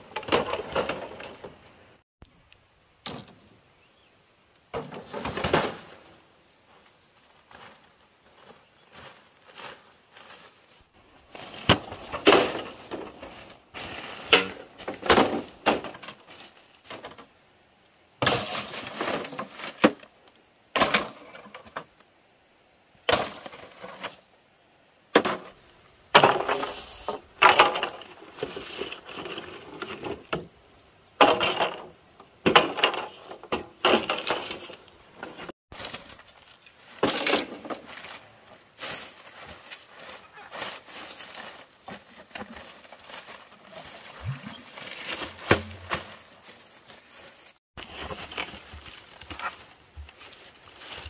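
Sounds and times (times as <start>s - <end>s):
dry thatch and bamboo crackling: 4.7s - 17.4s, 18.2s - 22.0s, 25.2s - 30.5s, 31.2s - 51.0s.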